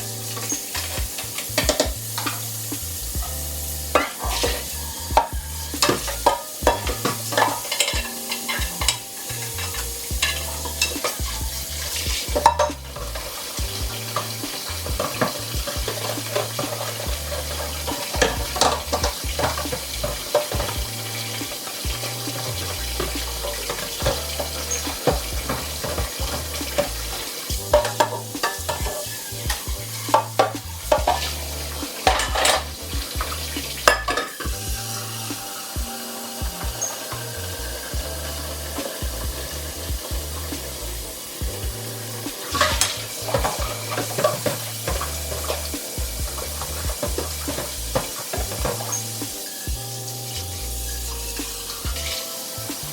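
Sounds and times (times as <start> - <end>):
dishes and utensils clinking: 0.0 - 52.9
scrubbing hiss: 0.0 - 52.9.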